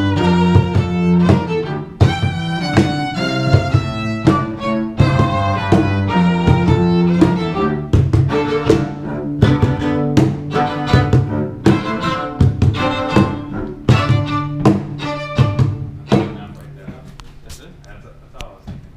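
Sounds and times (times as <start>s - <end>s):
fiddle melody: 0.0s - 17.1s
lower strings: 0.0s - 17.1s.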